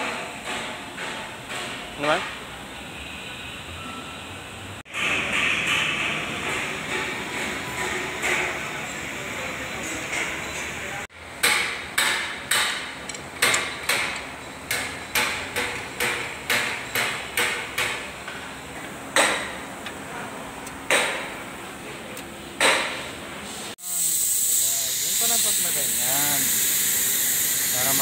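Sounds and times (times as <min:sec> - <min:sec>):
steady workshop noise: 0:00.0 - 0:28.0.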